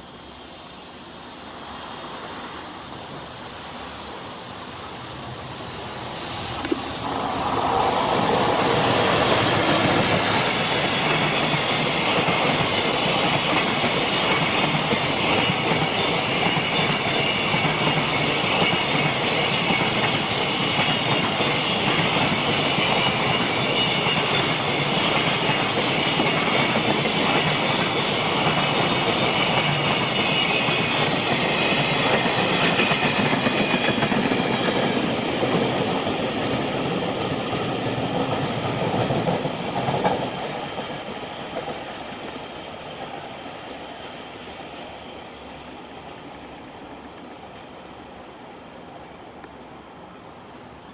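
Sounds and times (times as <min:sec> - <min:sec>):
freight train rolling past: 0:00.0 - 0:50.9.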